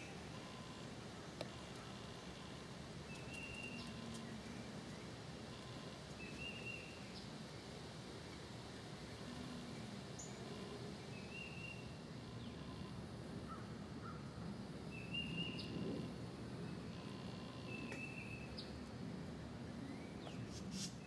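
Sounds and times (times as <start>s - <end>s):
faint background noise: 0.0s - 21.0s.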